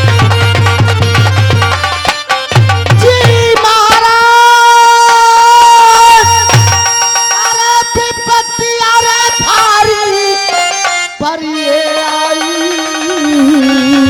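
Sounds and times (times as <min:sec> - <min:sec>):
harmonium sustained notes: 0:00.0 - 0:14.0.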